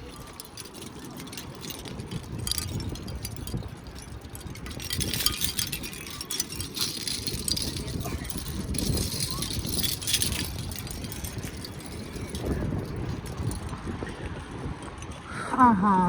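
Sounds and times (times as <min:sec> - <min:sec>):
light metallic tinkling: 0:00.0 - 0:15.7.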